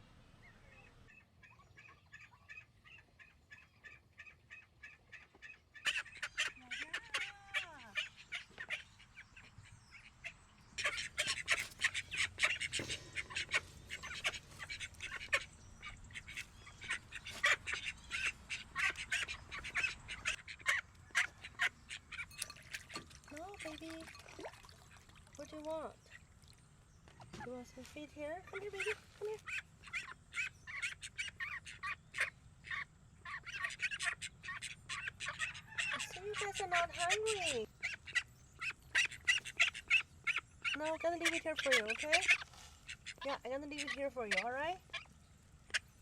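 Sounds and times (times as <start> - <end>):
ducks quacking: 0.6 - 24.0, 27.4 - 45.1.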